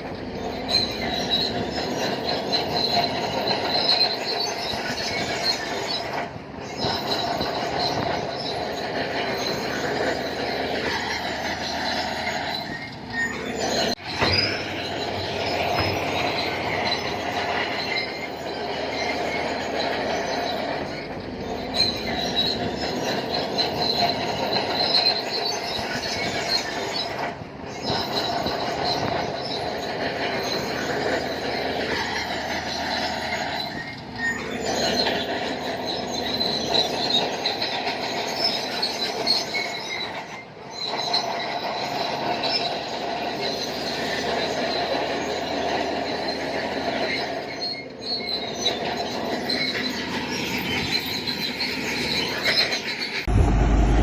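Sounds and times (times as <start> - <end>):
bulldozer diesel engine under load: 0.0 - 54.0
crawler tracks squealing and clanking: 0.0 - 54.0.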